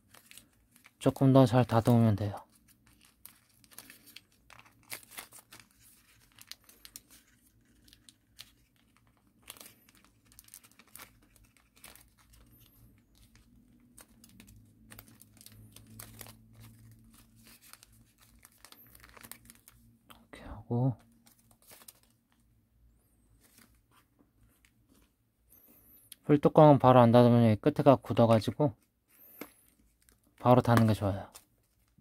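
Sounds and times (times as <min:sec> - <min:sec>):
paper crinkling and rustling: 0:00.0 - 0:19.8, 0:21.0 - 0:25.8, 0:28.1 - 0:32.0.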